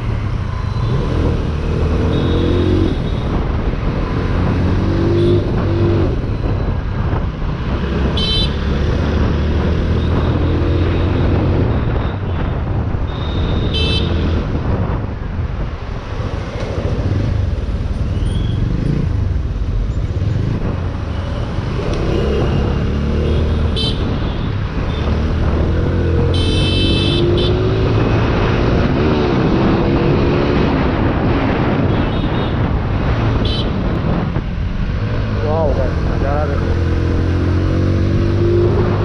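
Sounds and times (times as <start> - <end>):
wind and road noise: 0.0 - 39.0.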